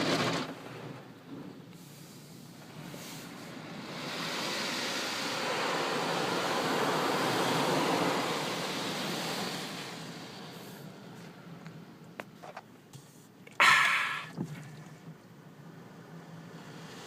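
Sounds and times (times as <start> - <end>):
car wash water spraying: 0.0 - 17.0.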